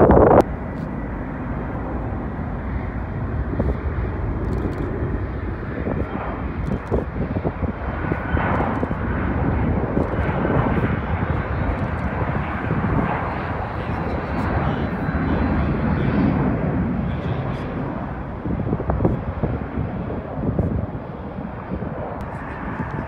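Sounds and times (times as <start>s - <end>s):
distant jet landing: 0.0s - 23.0s.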